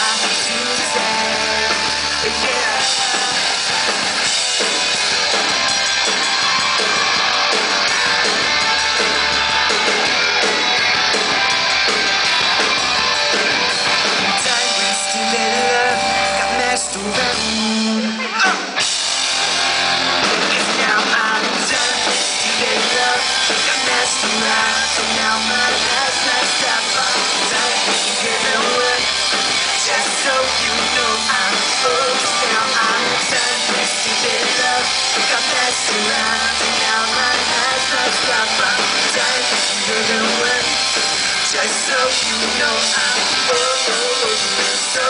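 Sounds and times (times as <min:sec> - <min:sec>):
rock band playing live: 0:00.0 - 0:45.0.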